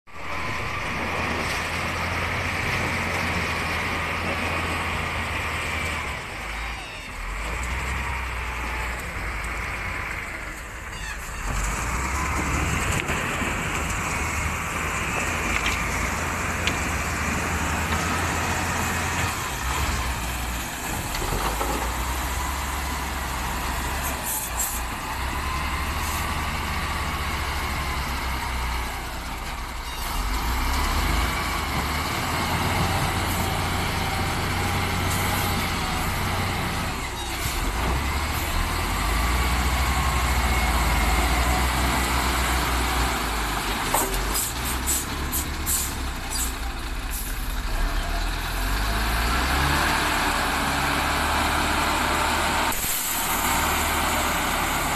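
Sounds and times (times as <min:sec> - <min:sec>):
truck diesel engine droning: 0:00.2 - 0:54.9.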